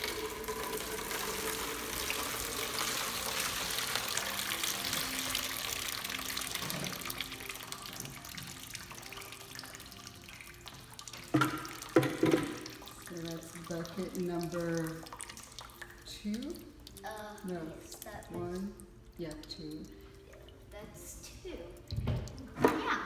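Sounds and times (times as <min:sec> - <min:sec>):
water pouring into bucket: 0:00.0 - 0:20.8.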